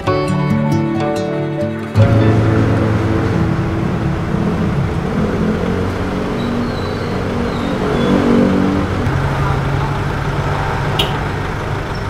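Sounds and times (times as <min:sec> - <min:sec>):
truck engine humming: 0:02.0 - 0:12.0.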